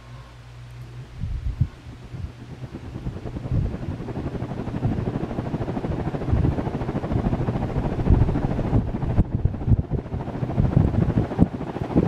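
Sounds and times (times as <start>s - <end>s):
ceiling fan whooshing: 0.0s - 12.0s.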